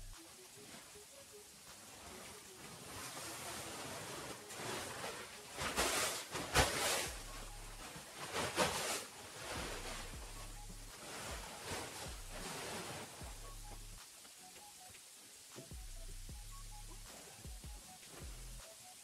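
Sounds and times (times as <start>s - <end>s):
plastic tarp rustling and crackling: 0.0s - 13.5s, 17.1s - 19.0s.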